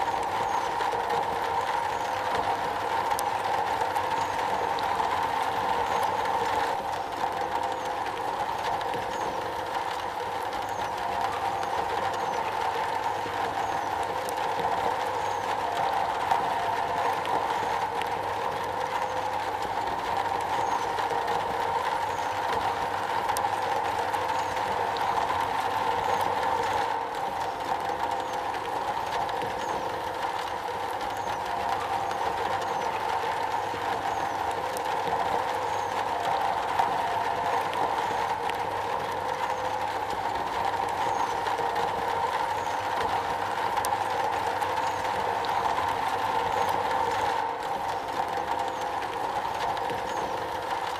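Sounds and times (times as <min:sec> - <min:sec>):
rain on a metal roof: 0:00.0 - 0:50.9.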